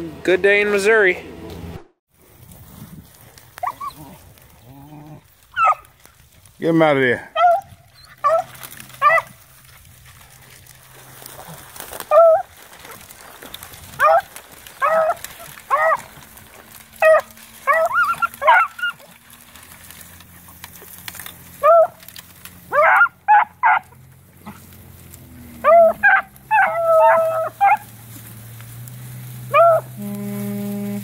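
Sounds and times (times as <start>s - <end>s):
beagles baying: 3.6s - 6.3s, 7.2s - 30.4s.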